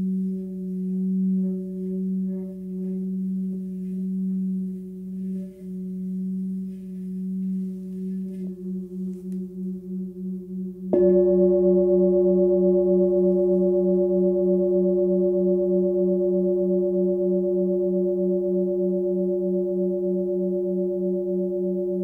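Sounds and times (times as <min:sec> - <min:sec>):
singing bowl humming: 0:00.0 - 0:22.0
singing bowl struck ringing: 0:00.0 - 0:22.0.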